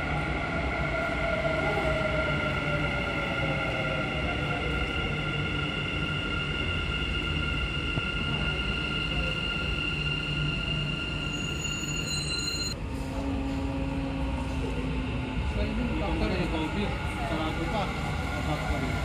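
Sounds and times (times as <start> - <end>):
electric train rumble: 0.0 - 19.0.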